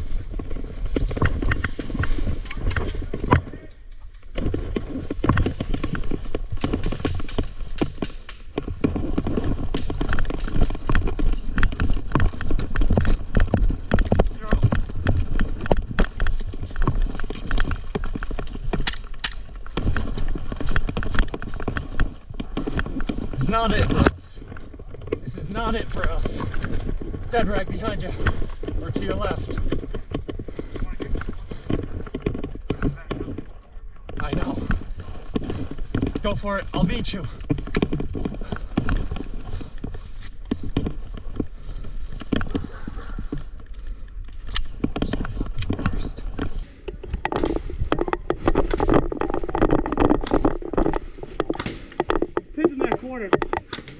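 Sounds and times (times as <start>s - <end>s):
gear knocking and rustling: 0.0s - 53.9s
low rumble of wind: 0.0s - 53.9s
microphone handling noise: 0.0s - 53.9s.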